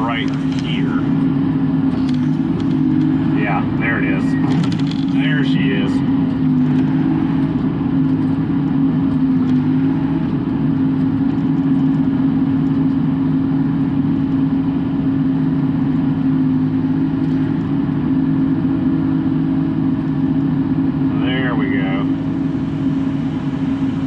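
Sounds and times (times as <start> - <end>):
excavator diesel engine and hydraulics: 0.0 - 24.0.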